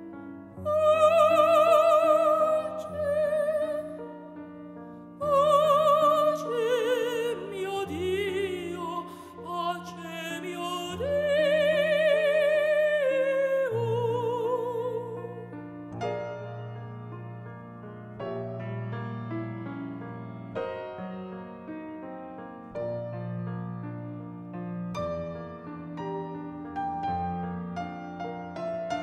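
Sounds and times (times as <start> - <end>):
piano accompaniment: 0.0 - 29.0.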